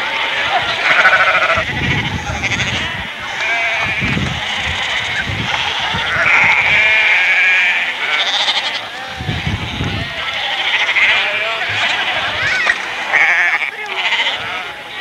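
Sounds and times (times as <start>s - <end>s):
flock of sheep bleating: 0.0s - 15.0s
long sheep bleat: 0.0s - 15.0s.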